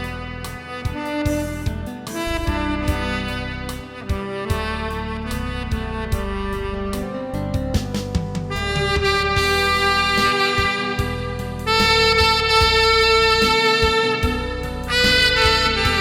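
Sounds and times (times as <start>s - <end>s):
backing track with bass and drums: 0.0s - 16.0s
tenor saxophone melody: 0.0s - 16.0s.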